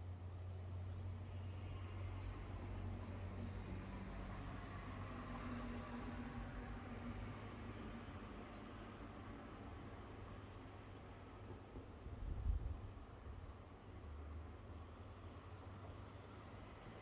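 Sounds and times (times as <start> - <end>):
crickets chirping: 0.0 - 4.9, 8.0 - 17.0.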